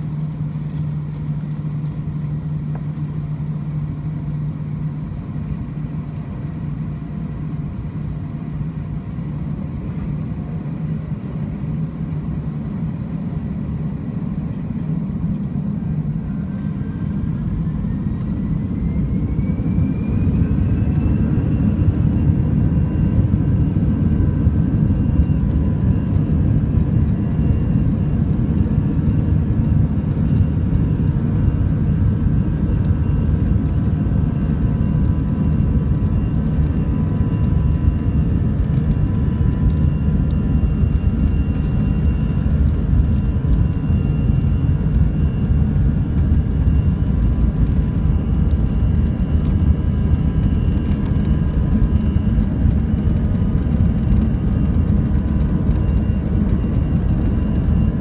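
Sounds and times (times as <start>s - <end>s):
jet engines rumbling: 0.0s - 58.0s
rising engine whine: 0.0s - 58.0s.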